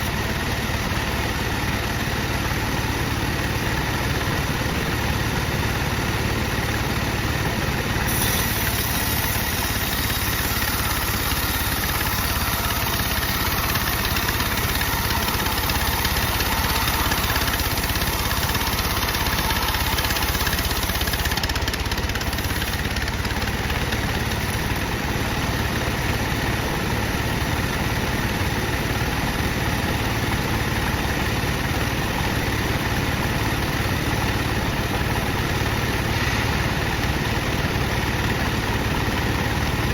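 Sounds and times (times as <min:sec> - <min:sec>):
bandsaw machine droning: 0:00.0 - 0:39.9.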